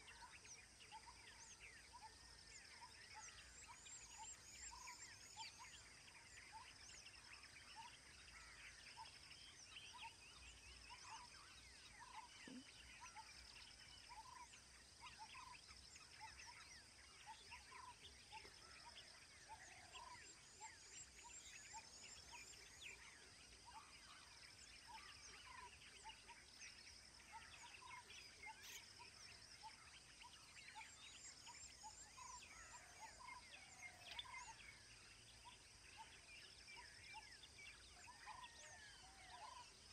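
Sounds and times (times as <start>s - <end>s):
birds chirping and calling: 6.6s - 39.7s.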